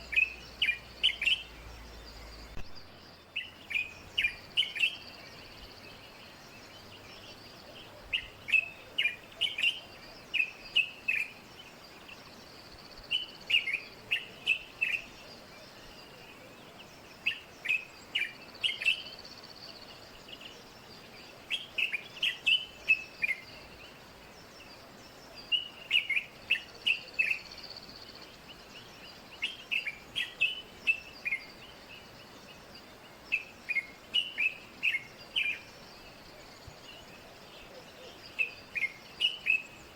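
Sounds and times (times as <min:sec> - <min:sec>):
faint steady hiss: 0:00.0 - 0:39.9
songbird singing: 0:00.0 - 0:39.9.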